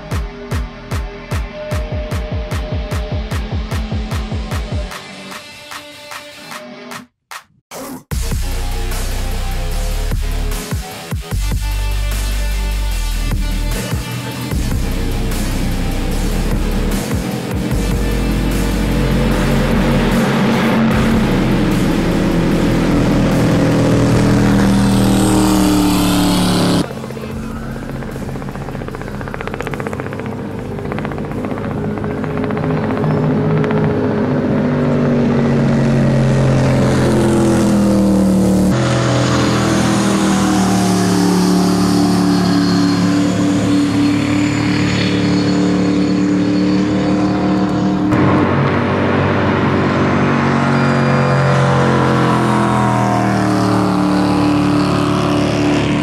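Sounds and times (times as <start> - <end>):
race boat engines at high speed: 8.2 - 56.0.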